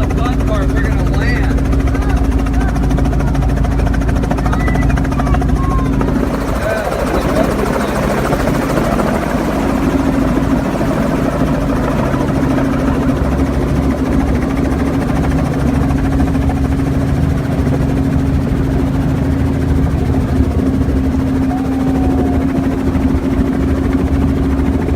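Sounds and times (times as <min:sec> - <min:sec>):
helicopter engine and rotor drone: 0:00.0 - 0:24.9.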